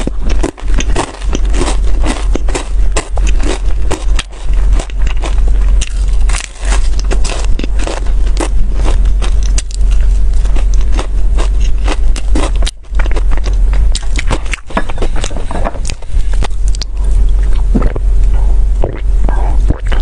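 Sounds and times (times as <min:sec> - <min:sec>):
crisp crust crackling while chewing: 0:00.0 - 0:17.8
steady low rumble: 0:00.0 - 0:20.0.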